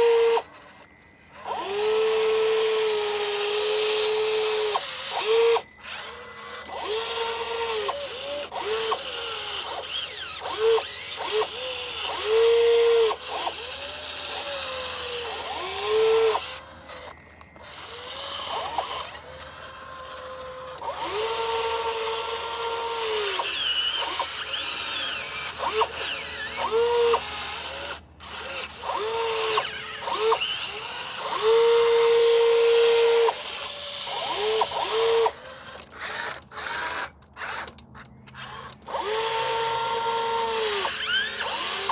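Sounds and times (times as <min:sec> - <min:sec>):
small electric motors whining: 0:00.0 - 0:41.9.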